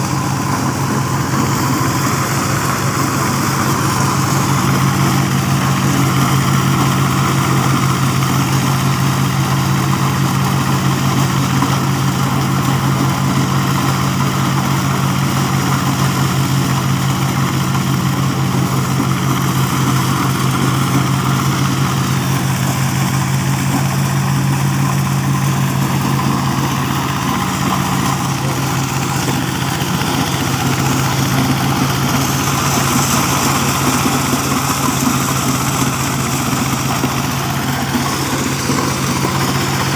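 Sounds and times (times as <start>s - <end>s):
diesel engine drone: 0.0s - 39.9s
threshing machinery whirring: 0.0s - 39.9s.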